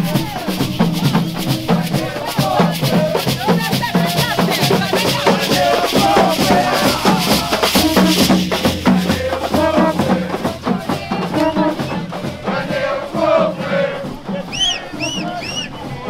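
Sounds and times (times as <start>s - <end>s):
rattling shakers: 0.0s - 13.1s
many voices chanting: 0.0s - 16.0s
skin drums fast rhythm: 0.0s - 16.0s.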